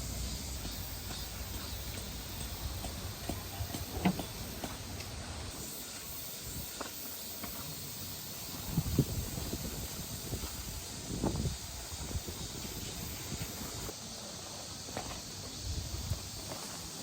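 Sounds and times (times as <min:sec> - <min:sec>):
hissing outdoor background noise: 0:00.0 - 0:17.0.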